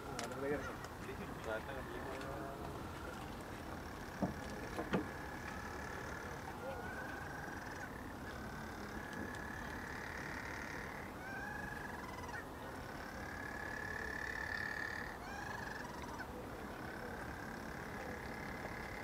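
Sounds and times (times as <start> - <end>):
penguin calling: 3.0 - 19.0.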